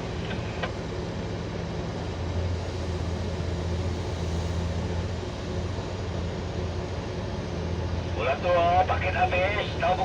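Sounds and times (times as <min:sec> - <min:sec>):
excavator diesel engine droning: 0:00.0 - 0:10.0.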